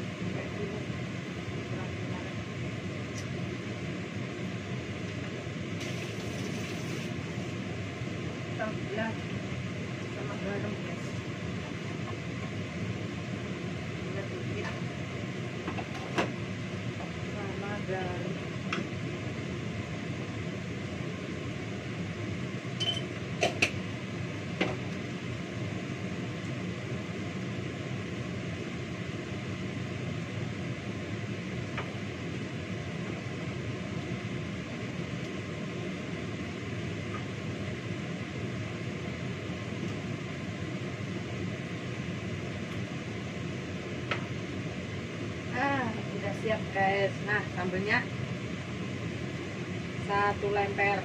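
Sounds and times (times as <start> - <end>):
extractor fan whirring: 0.0 - 51.0.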